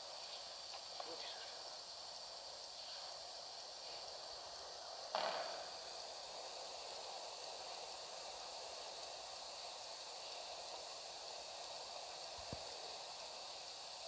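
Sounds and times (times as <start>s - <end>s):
recording hiss: 0.0s - 14.0s.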